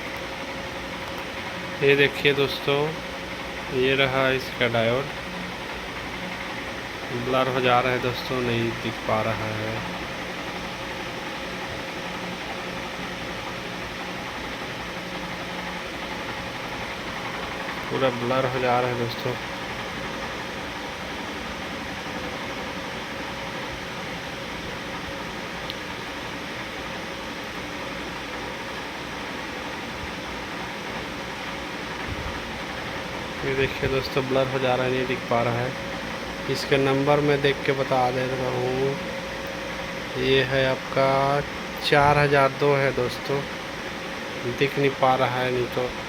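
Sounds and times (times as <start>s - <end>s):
room noise hiss: 0.0s - 46.0s.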